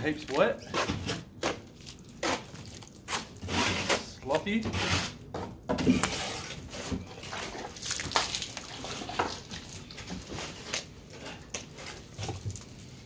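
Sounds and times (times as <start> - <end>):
wet mortar squelching: 0.0 - 5.2, 5.9 - 13.0.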